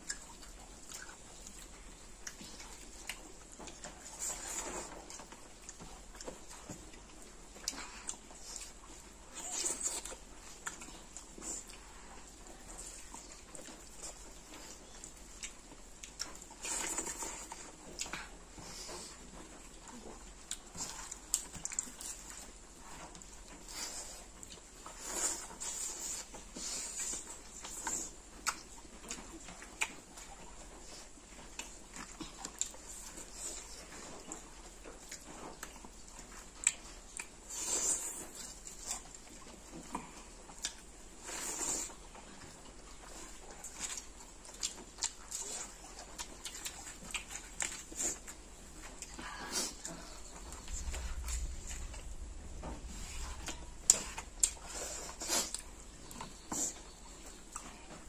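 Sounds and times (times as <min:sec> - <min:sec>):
chewing and lip-smacking: 0:00.0 - 0:58.0.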